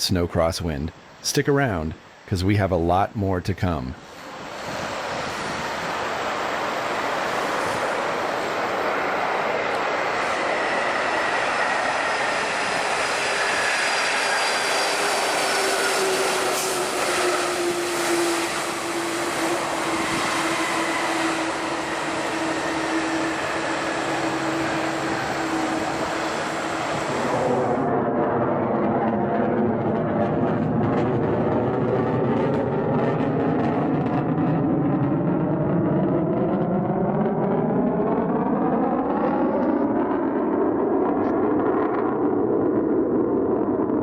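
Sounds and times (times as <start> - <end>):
jet engines roaring and whining: 0.0 - 44.0.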